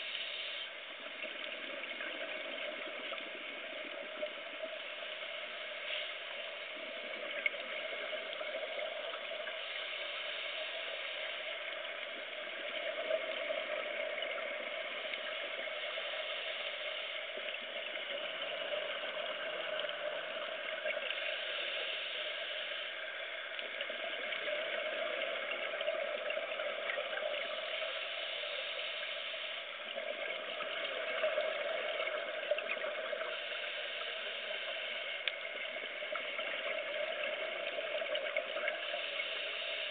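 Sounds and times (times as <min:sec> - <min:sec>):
faint crackles and clicks: 0:00.0 - 0:39.9
muffled underwater hiss: 0:00.0 - 0:39.9.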